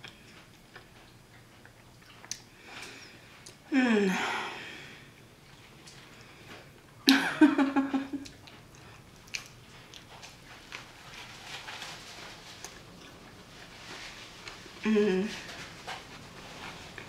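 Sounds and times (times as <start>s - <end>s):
quiet chewing with small clicks: 0.0s - 3.7s, 5.0s - 7.2s, 8.2s - 17.0s.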